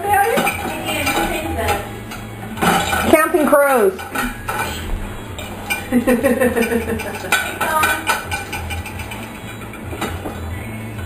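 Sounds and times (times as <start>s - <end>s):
plates and cutlery clinking: 0.0s - 10.7s.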